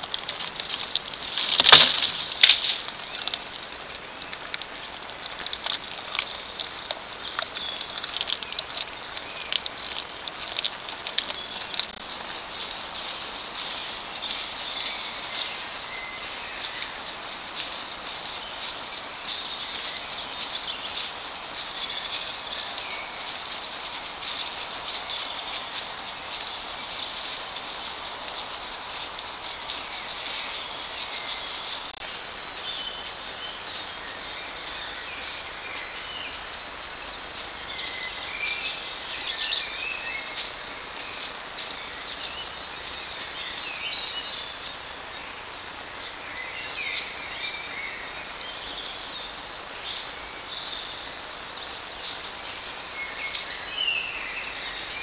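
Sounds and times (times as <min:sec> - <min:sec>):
birds chirping and trilling: 0:00.0 - 0:55.0
microphone hiss: 0:00.0 - 0:55.0.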